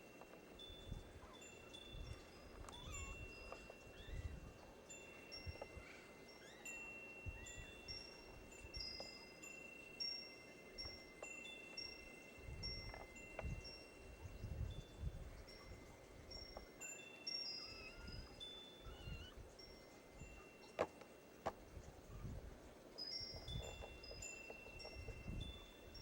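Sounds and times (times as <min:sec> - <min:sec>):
wind chimes ringing: 0:00.0 - 0:26.0.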